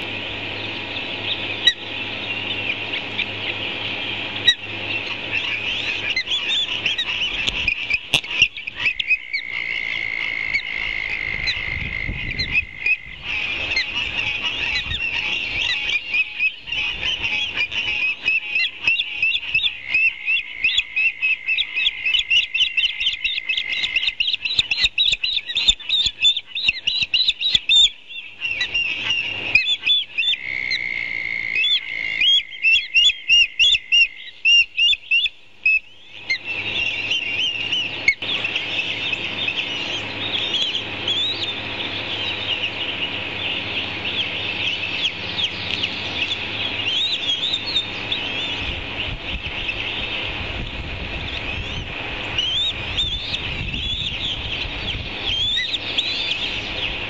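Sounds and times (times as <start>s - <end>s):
ospreys chirping: 0.0s - 57.0s.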